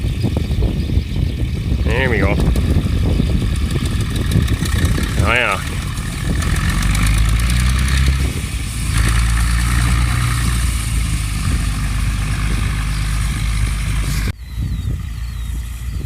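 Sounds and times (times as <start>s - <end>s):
tractor engine running: 1.6s - 16.0s.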